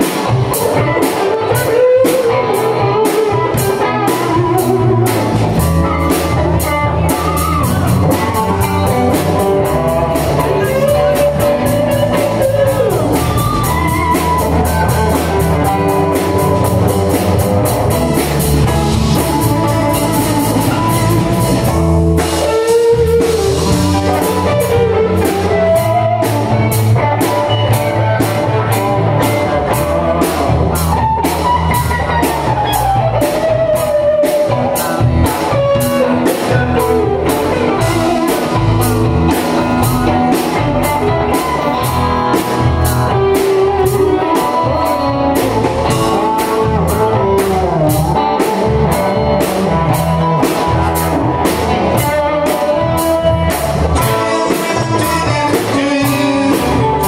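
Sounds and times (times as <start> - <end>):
bass guitar: 0.0 - 57.0
drum kit cymbal beat: 0.0 - 57.0
electric guitar lead lines: 0.0 - 57.0.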